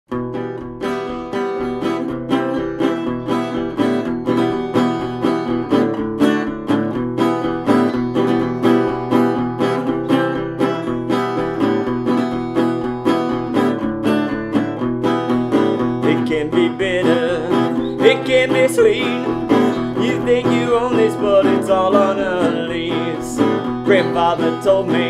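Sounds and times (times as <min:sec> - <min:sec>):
resonator guitar strumming: 0:00.1 - 0:25.0.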